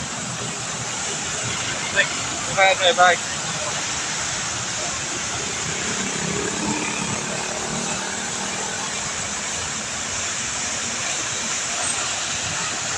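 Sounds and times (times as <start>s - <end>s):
water fountain splashing: 0.0s - 12.9s.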